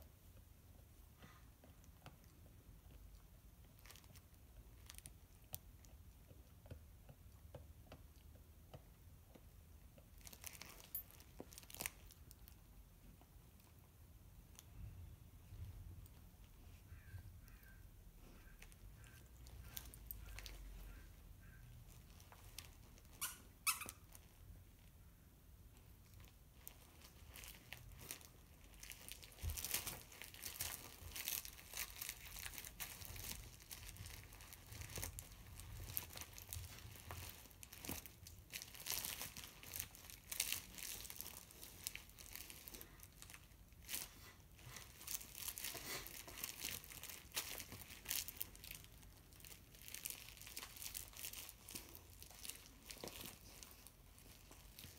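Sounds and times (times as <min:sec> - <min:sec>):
puppy chewing fabric toy: 0:00.0 - 0:24.8, 0:25.7 - 0:54.9.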